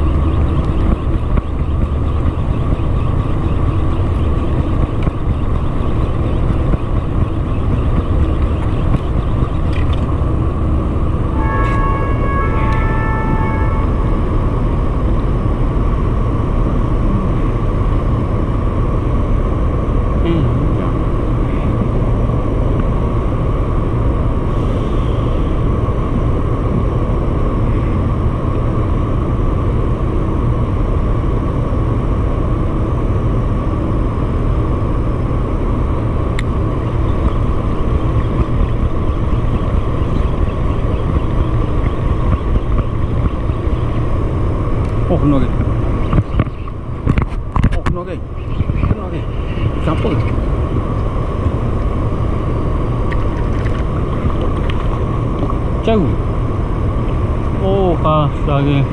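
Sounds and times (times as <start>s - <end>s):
loud machine drone: 0.0s - 58.9s.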